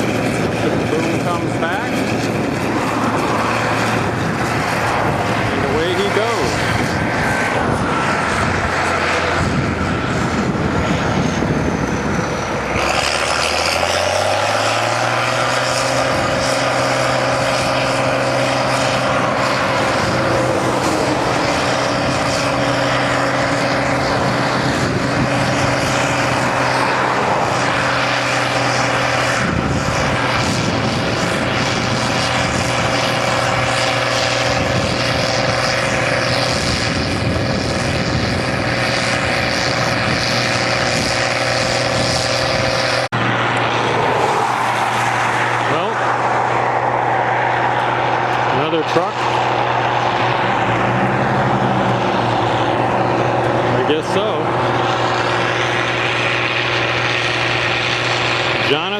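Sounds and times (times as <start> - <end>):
large engine running: 0.0 - 58.9.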